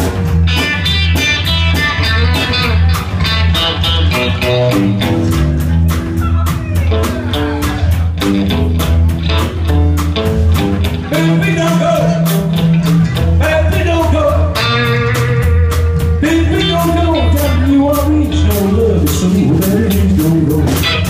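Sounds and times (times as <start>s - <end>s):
drums steady beat: 0.0s - 21.0s
electric guitar: 0.0s - 21.0s
walking bass line: 0.0s - 21.0s.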